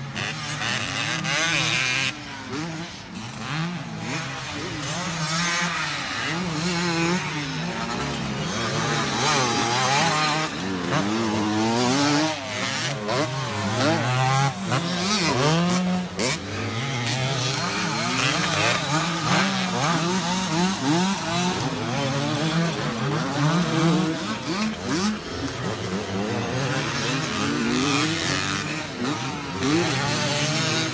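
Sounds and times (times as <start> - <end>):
dirt bike engines revving: 0.0 - 30.9.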